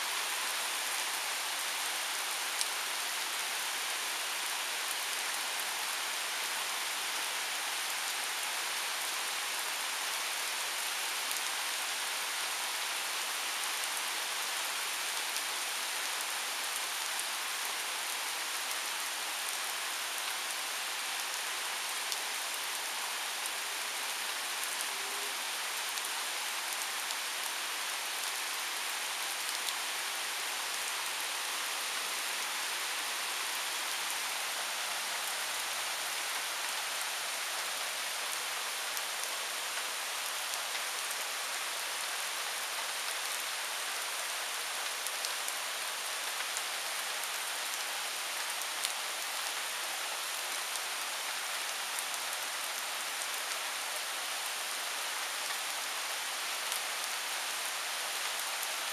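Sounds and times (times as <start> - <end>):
rain falling on trees and lawn: 0.0 - 58.9.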